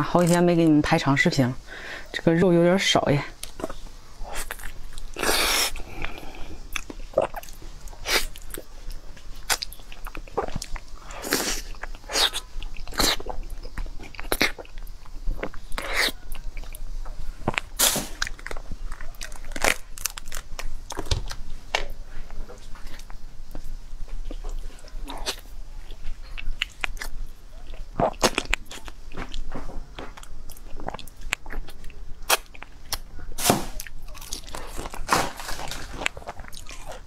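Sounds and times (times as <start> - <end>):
person chewing crunchy food: 3.4 - 37.0.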